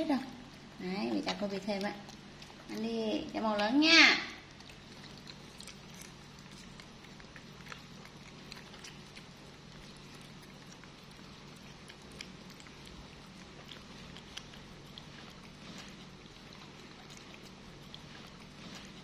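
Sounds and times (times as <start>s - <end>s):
monkey chewing clicks and smacks: 0.4s - 19.0s.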